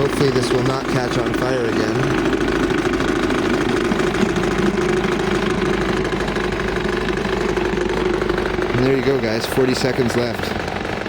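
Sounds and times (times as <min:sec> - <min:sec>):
model steam engine running: 0:00.0 - 0:11.0.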